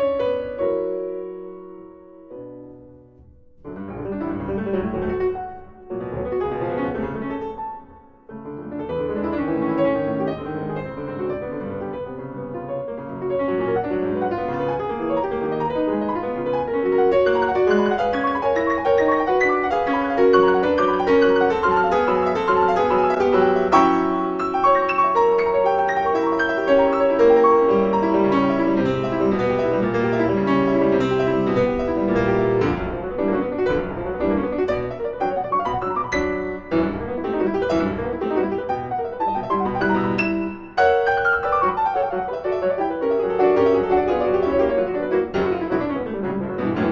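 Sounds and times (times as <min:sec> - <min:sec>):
classical piano music: 0:00.0 - 0:46.9.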